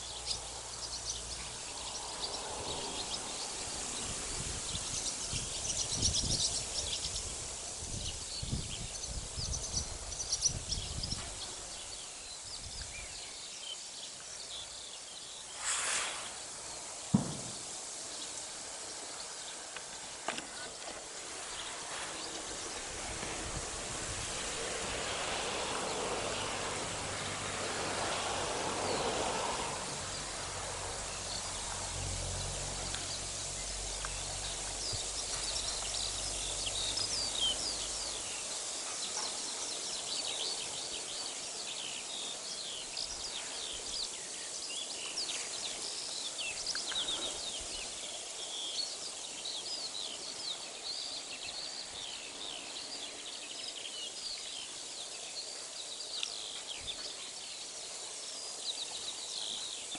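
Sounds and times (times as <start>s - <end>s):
songbirds chirping: 0.0s - 59.9s
steady outdoor hiss: 0.0s - 59.9s.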